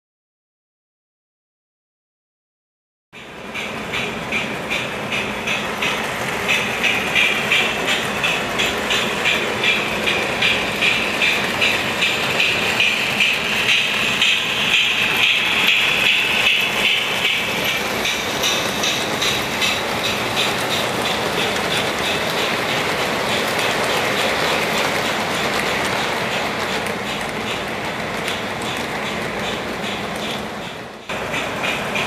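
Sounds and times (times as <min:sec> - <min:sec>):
toy steam locomotive chuffing: 0:03.2 - 0:32.0
train wheels rumbling and clicking: 0:03.2 - 0:32.0.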